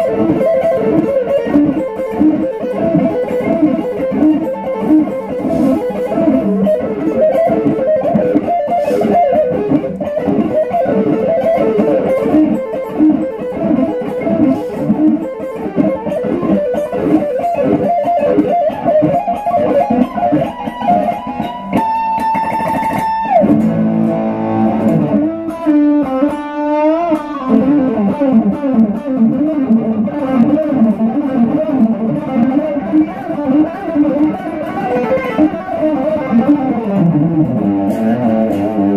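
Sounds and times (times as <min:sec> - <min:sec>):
electric guitar lead: 0:00.0 - 0:38.9.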